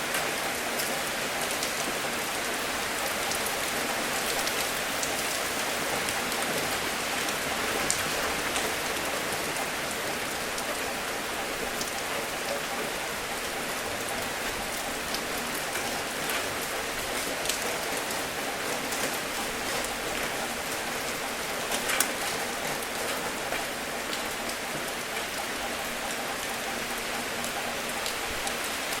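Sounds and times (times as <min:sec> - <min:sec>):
steady rain falling: 0:00.0 - 0:29.0
raindrops ticking: 0:00.1 - 0:29.0.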